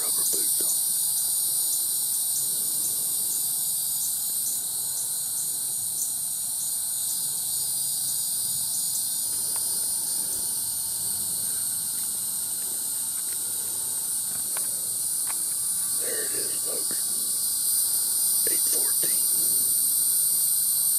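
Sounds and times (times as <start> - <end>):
insect chorus: 0.0 - 20.9
single insect chirping: 0.0 - 20.9.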